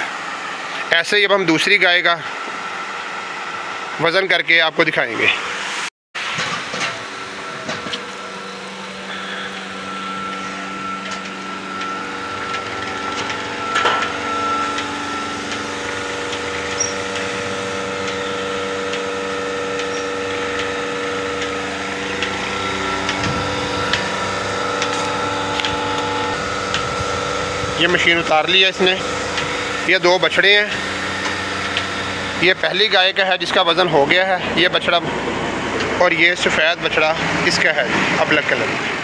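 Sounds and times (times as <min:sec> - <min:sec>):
milking machine vacuum pump running: 0:00.0 - 0:05.7, 0:06.4 - 0:39.0.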